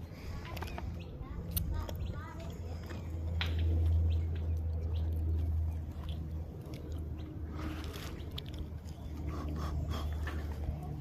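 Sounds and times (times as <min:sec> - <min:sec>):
low hum: 0:00.0 - 0:11.0
person chewing crunchy food: 0:01.5 - 0:10.9.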